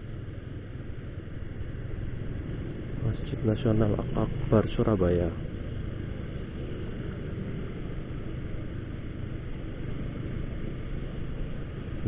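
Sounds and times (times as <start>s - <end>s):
motorcycle engine hum: 0.0s - 12.0s
road noise: 0.0s - 12.0s.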